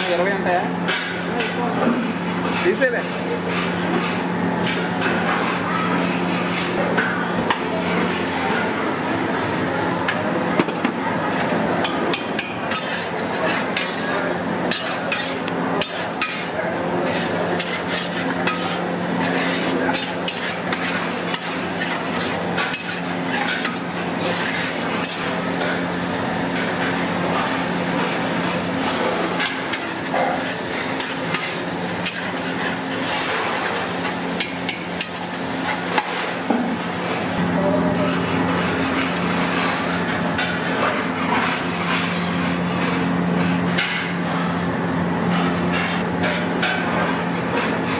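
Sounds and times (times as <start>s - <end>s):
sizzle of frying: 0.0s - 47.9s.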